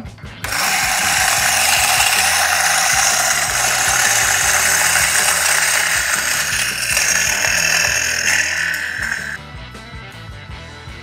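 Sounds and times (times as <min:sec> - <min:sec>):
coffee grinder running: 0:00.4 - 0:09.4.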